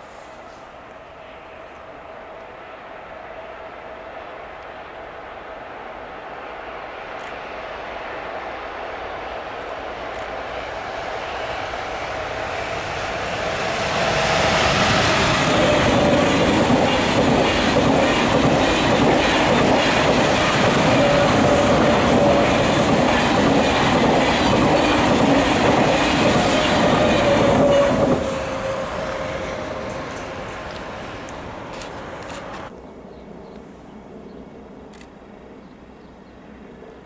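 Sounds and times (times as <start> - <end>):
train wheels rumbling on rail: 0.0 - 32.7
steady train hum: 0.0 - 37.0
rhythmic train clatter: 2.1 - 32.7.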